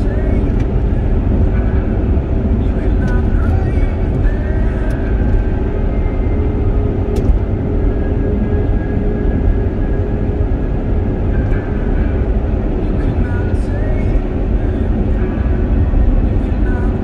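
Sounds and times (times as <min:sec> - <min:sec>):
vehicle tyre and engine rumble: 0:00.0 - 0:17.0.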